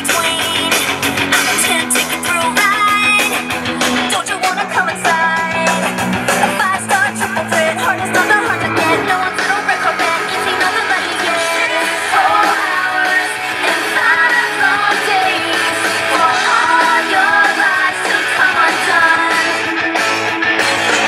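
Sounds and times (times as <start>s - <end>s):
loud rock song with singing: 0.0s - 21.0s.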